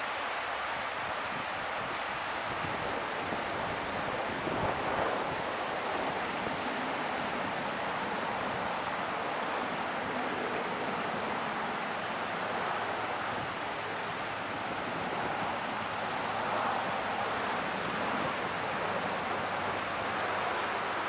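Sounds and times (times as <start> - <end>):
geyser water splashing hiss: 0.0 - 21.0
wind gust on microphone: 0.6 - 21.0.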